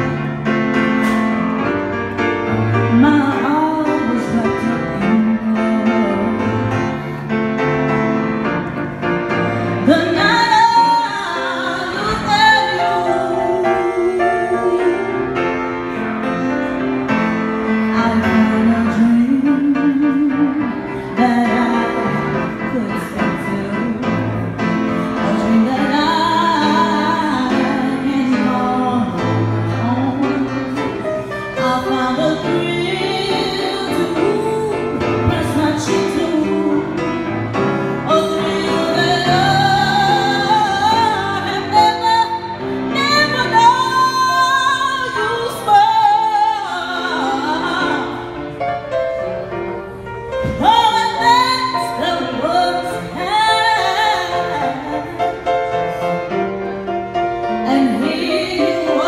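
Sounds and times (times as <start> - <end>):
instrumental backing: 0.0 - 59.0
woman singing soul ballad: 1.0 - 7.3, 9.4 - 16.4, 17.6 - 48.6, 50.4 - 56.2, 57.4 - 59.0.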